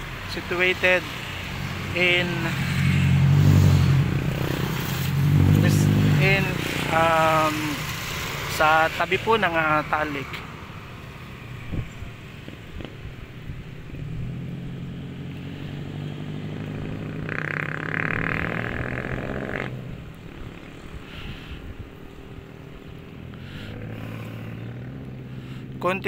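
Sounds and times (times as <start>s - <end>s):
vehicle engine passing: 0.9s - 25.9s.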